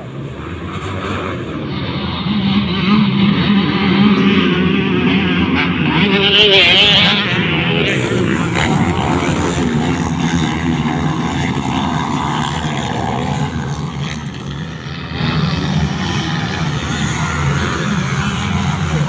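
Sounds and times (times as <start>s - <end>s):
dirt bike engines racing: 0.0s - 19.0s.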